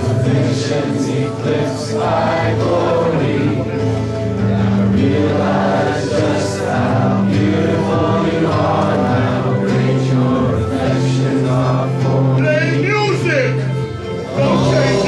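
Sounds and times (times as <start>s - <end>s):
voices singing together: 0.0s - 15.0s
worship band playing: 0.0s - 15.0s.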